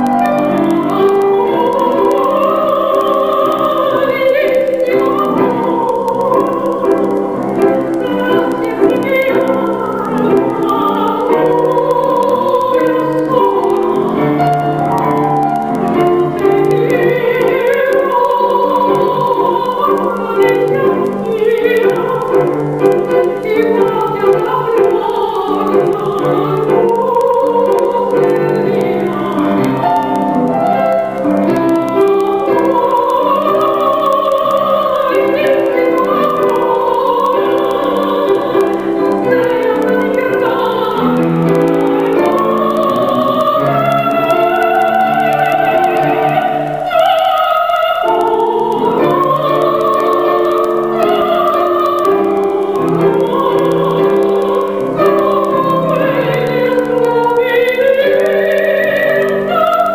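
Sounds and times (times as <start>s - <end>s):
woman singing classical melody: 0.0s - 59.9s.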